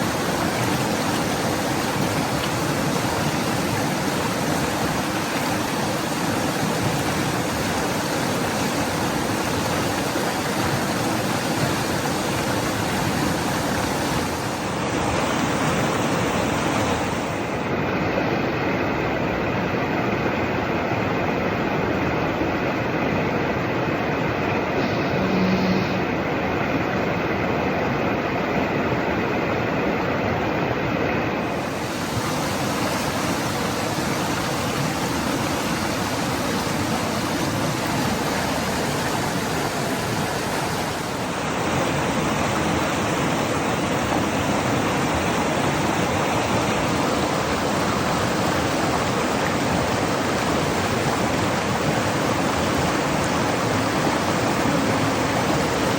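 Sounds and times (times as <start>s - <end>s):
river rushing over stones: 0.0s - 55.9s.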